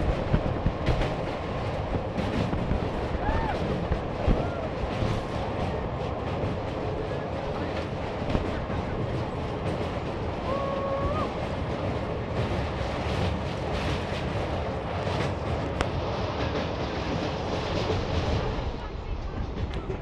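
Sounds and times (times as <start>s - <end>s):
train running over bridge: 0.0s - 20.0s
wind rushing over microphone: 0.0s - 20.0s.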